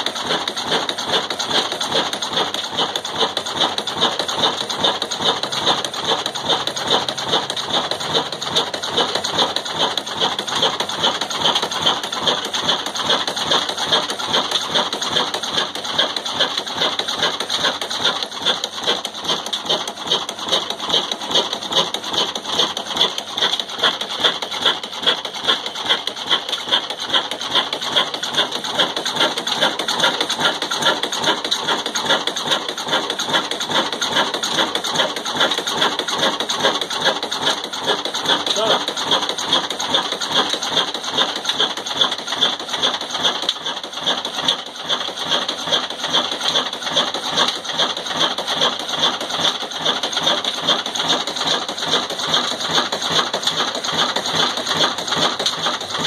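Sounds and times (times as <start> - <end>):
slow diesel engine running: 0.0 - 56.0.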